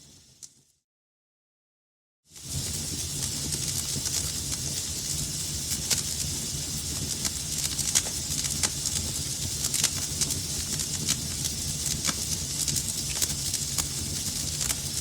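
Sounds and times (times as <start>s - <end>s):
wood fire crackling: 2.4s - 15.0s.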